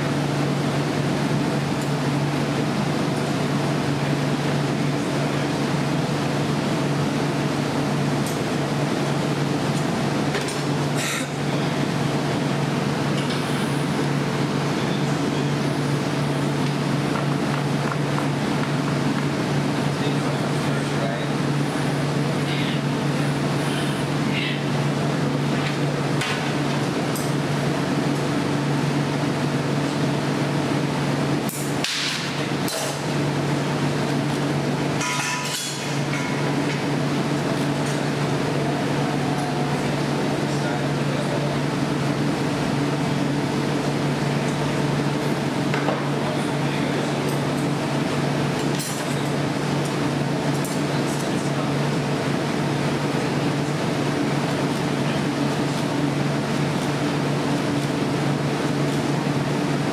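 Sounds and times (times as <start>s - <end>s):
furnaces and fans roaring: 0.0s - 59.9s
steady low hum: 0.0s - 59.9s.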